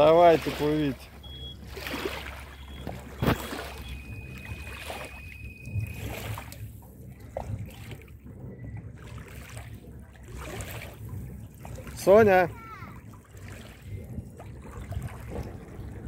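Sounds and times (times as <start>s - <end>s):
motorboat engine idling: 0.0s - 16.0s
water lapping: 0.0s - 16.0s.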